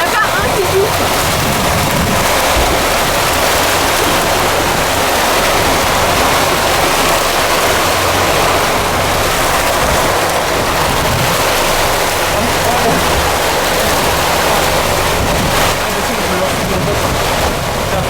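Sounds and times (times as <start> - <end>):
water rushing: 0.0 - 18.0
wind noise: 0.0 - 18.0.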